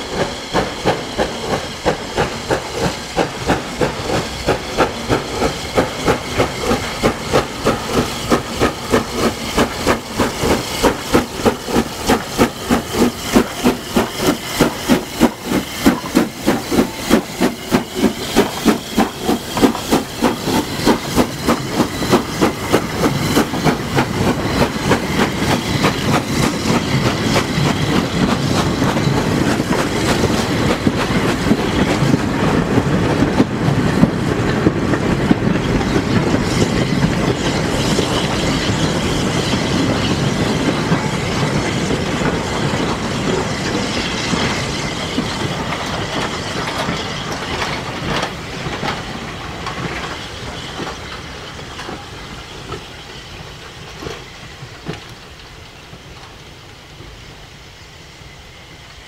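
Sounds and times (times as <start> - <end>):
wheels clacking over rail joints: 0.0 - 57.1
steam locomotive exhaust beating: 0.0 - 59.0.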